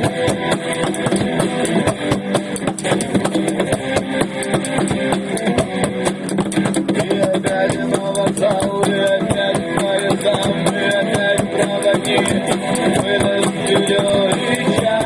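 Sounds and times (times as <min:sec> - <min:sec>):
fast drumming on plastic buckets: 0:00.0 - 0:15.0
strummed guitar: 0:00.0 - 0:15.0.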